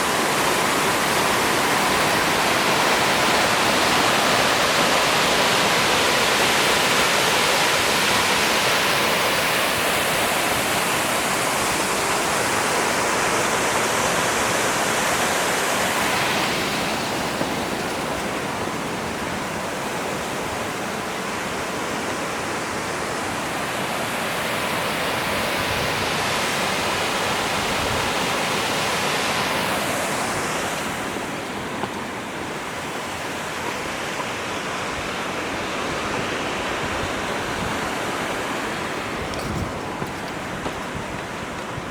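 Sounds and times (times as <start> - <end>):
water rushing over a spillway: 0.0 - 41.9.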